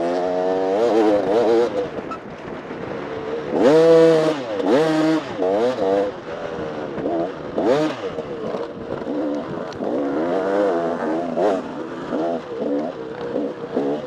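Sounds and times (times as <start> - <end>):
dirt bike engine revving: 0.0 - 2.2, 3.4 - 14.0.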